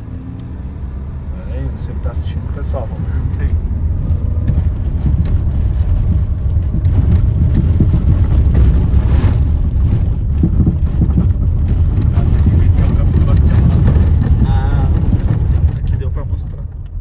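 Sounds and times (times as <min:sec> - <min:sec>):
road and engine rumble: 0:00.0 - 0:17.0
knocks and rattles: 0:01.8 - 0:17.0.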